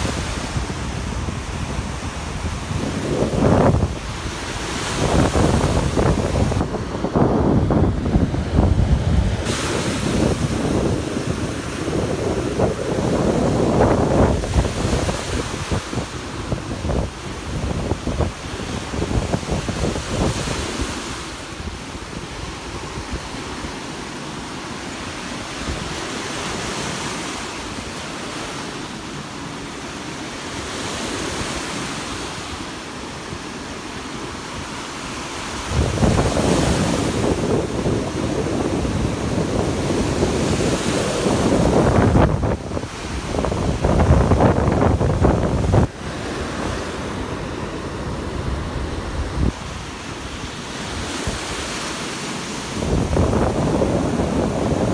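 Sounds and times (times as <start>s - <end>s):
wind buffeting microphone: 0.0s - 28.6s, 34.0s - 54.9s
waves breaking on a sandy beach: 0.0s - 54.9s.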